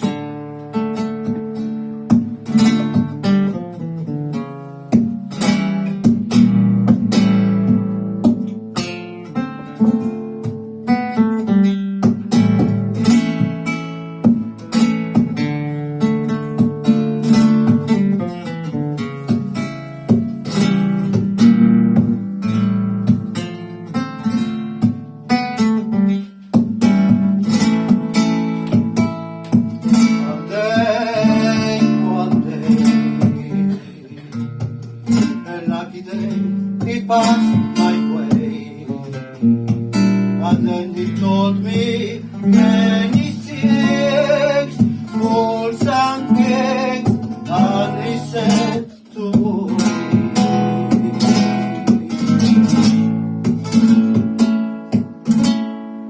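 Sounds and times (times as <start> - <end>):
flamenco guitar playing: 0.0 - 56.0.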